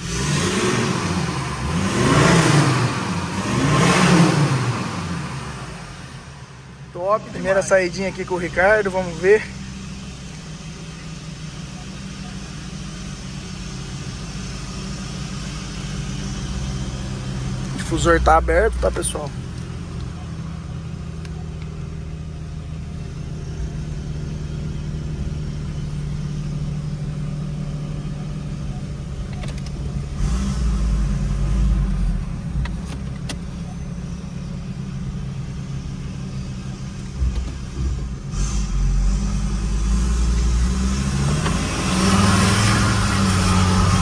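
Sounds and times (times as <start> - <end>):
loud diesel engine exhaust: 0.0 - 44.0.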